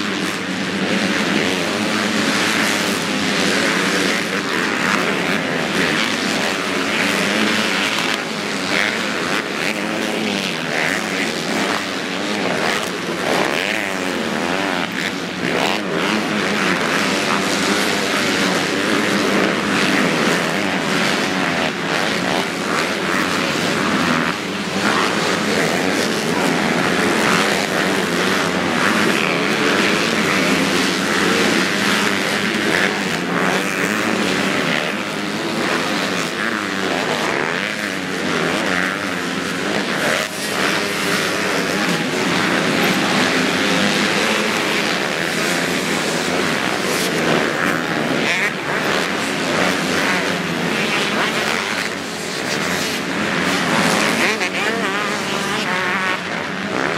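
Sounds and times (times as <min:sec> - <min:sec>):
motocross bikes revving: 0:00.0 - 0:56.9.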